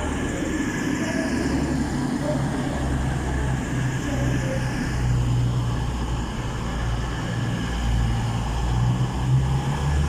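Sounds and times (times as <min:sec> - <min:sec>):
train diesel engines droning: 0:00.0 - 0:09.8.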